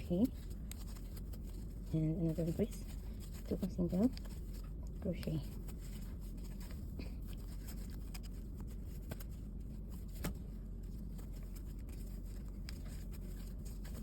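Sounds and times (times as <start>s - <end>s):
crochet hook rustling yarn: 0.0s - 14.0s
steady low hum: 0.0s - 14.0s.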